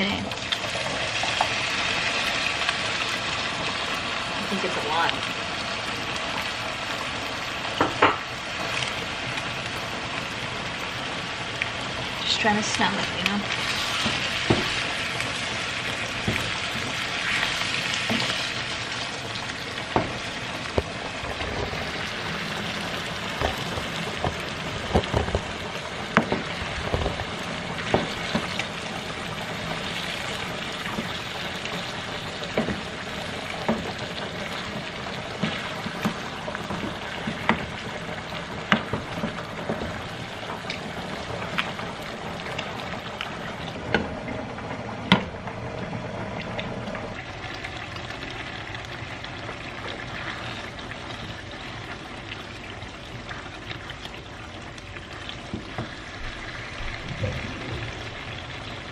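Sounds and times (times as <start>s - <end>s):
food sizzling in a pan: 0.0s - 57.2s.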